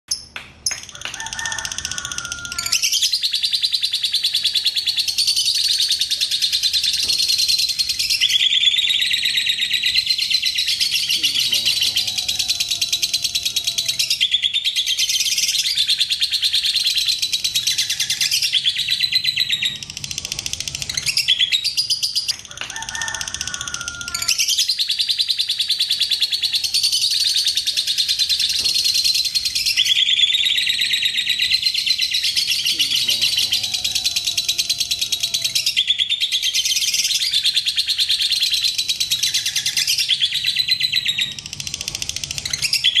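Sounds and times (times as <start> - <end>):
lovebird chattering trill: 0.1 - 43.0.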